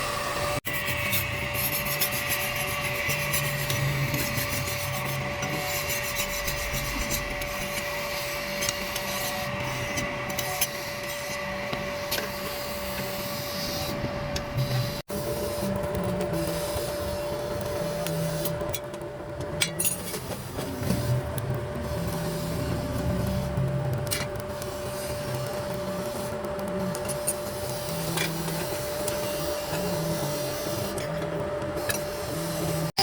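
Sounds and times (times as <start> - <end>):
electric tool grinding metal: 0.0 - 18.9, 19.6 - 33.0.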